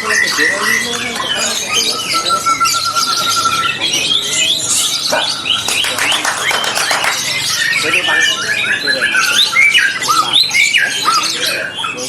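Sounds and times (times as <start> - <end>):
caged birds singing: 0.0 - 12.0.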